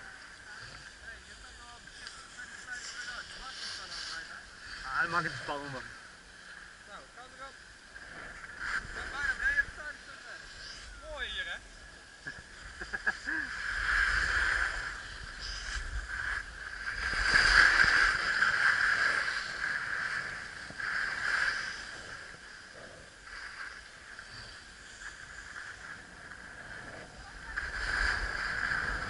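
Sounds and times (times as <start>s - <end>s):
skis scraping over packed snow: 0.0s - 5.9s, 6.9s - 29.0s.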